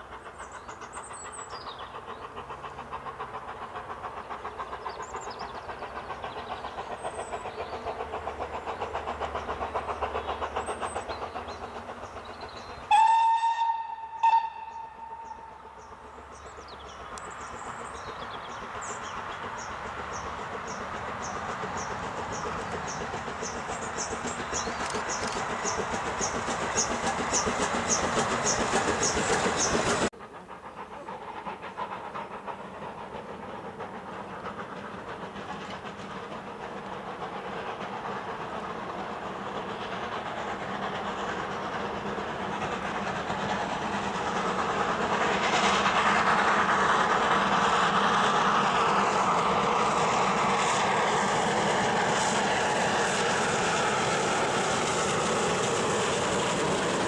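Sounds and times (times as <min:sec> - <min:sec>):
steam train approaching: 0:00.0 - 0:57.0
train wheels clicking over rail joints: 0:00.0 - 0:57.0.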